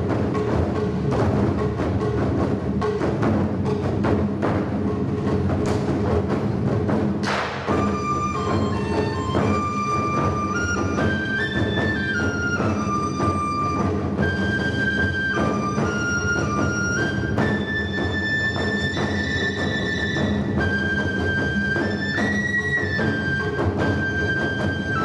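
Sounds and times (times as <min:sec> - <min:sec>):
instrumental ensemble music: 0:00.0 - 0:25.0
regular drum strokes: 0:00.0 - 0:25.0.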